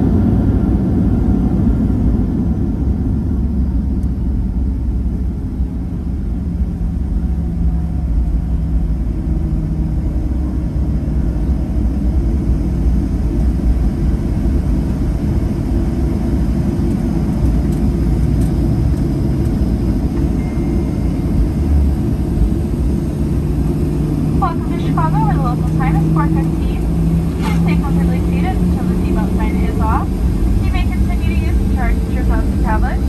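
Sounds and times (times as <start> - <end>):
airplane engines rumbling: 0.0 - 33.0.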